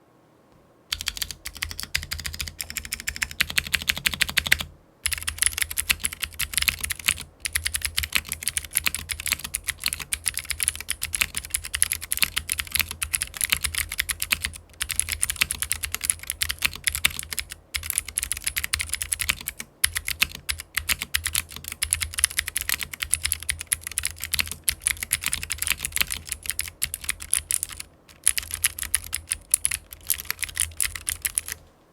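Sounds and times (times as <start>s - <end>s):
mechanical keyboard typing: 0.9s - 31.6s.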